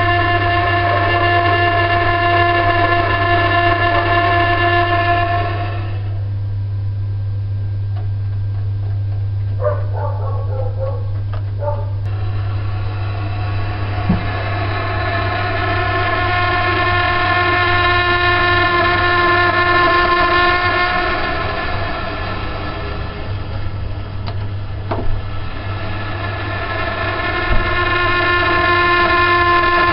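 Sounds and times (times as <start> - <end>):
boiler humming: 0.0 - 29.9
multi-pitched humming noise: 0.0 - 29.9.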